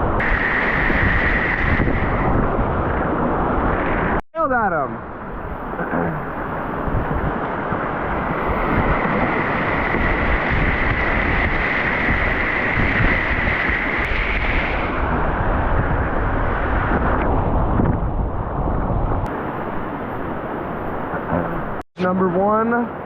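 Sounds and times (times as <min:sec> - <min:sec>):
wind buffeting microphone: 0:00.0 - 0:04.2, 0:05.0 - 0:21.8
whitewater roaring: 0:00.0 - 0:23.0.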